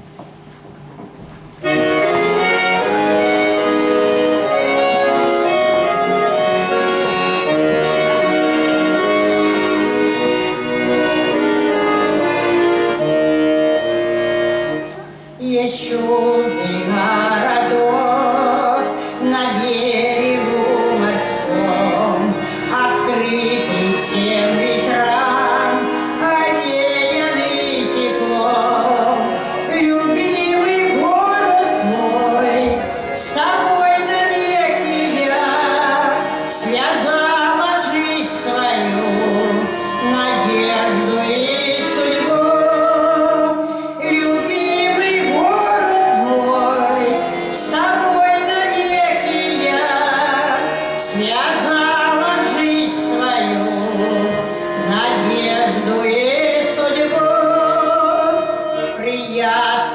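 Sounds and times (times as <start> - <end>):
accordion playing: 1.3 - 59.9
woman singing with vibrato: 1.6 - 59.9.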